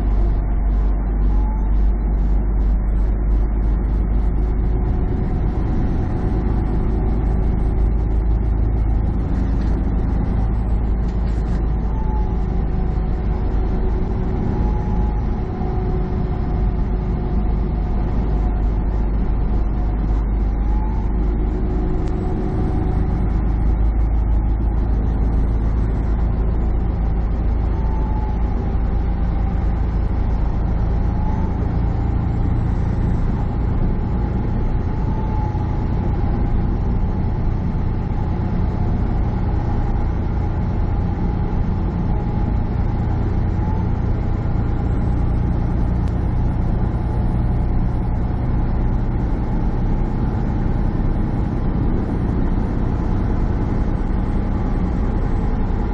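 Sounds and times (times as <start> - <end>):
road noise: 0.0 - 55.9
truck engine drone: 0.0 - 55.9.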